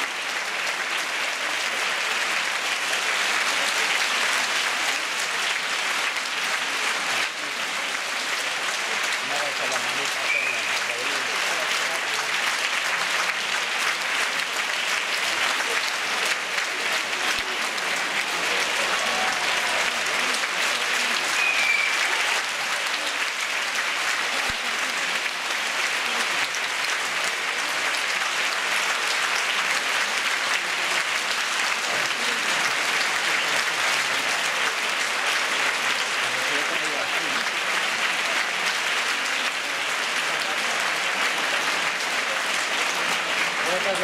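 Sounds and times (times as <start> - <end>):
audience applauding: 0.0 - 44.0.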